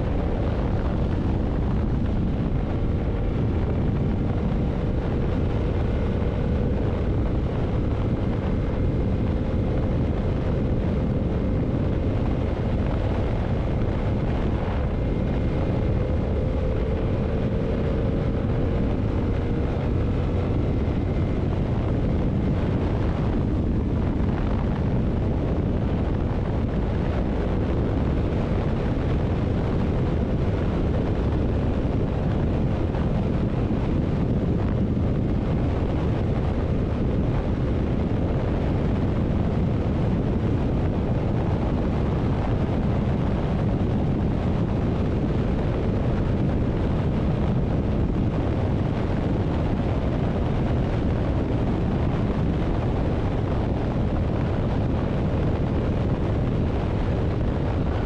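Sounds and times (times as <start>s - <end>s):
motorcycle engine cruising: 0.0s - 58.0s
wind rush on microphone: 0.0s - 58.0s.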